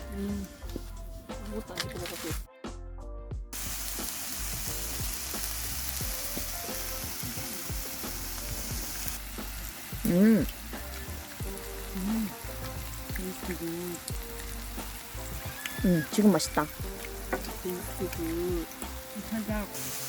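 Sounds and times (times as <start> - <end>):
faint background music: 0.0 - 20.0
food sizzling on a grill: 3.6 - 20.0.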